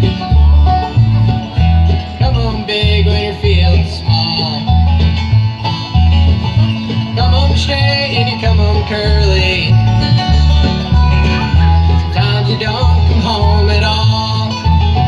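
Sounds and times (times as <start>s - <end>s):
bending melodic lead: 0.0s - 15.0s
plucked strings: 0.0s - 15.0s
pulsing bass line: 0.0s - 15.0s.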